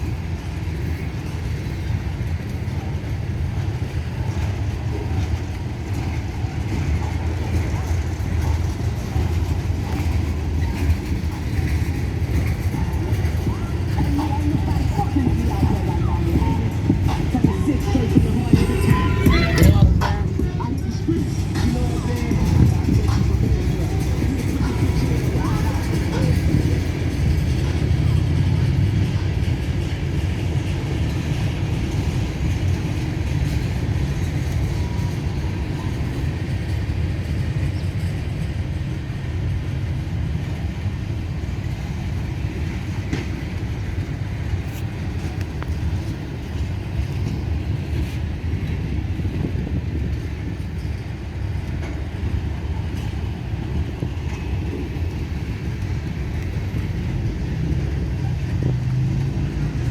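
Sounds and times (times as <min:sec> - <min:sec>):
freight train low rumble: 0:00.0 - 0:59.9.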